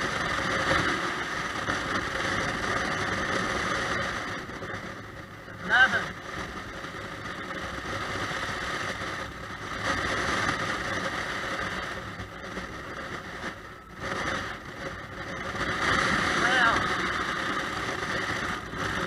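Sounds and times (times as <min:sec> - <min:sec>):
motorcycle engine riding: 0:00.0 - 0:19.0
wind and road noise: 0:00.0 - 0:19.0.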